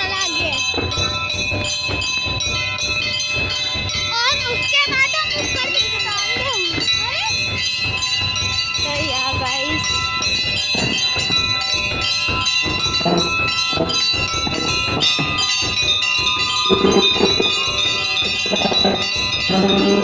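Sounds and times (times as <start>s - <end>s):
temple bells ringing: 0.0s - 20.0s.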